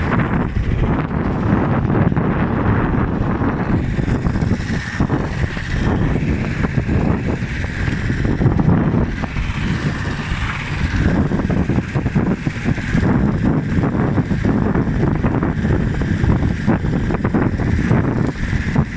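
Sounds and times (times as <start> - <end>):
strong wind on microphone: 0.0 - 18.9.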